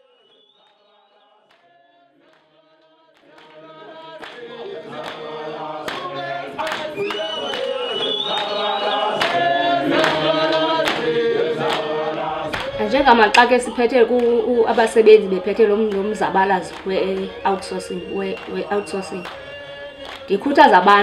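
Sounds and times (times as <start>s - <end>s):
group of voices singing: 0.0s - 21.0s.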